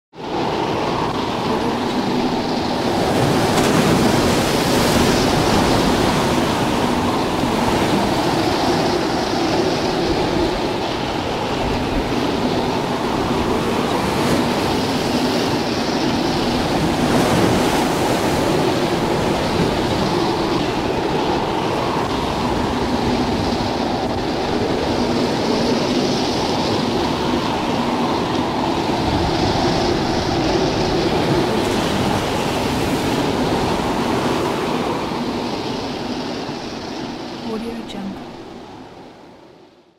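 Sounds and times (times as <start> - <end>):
storm wind blowing hard: 0.1 - 39.9.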